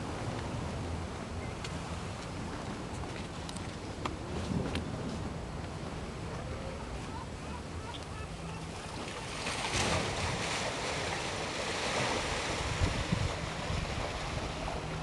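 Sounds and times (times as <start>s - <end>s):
surf washing against rocks: 0.0s - 15.0s
wind buffeting microphone: 0.0s - 15.0s.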